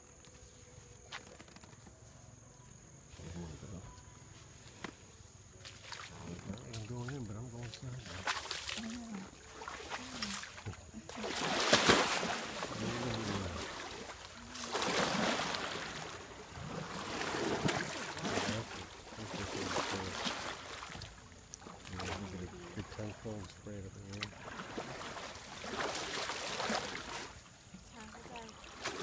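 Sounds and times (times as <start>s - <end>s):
water sloshing around wading elephant: 3.1s - 29.0s.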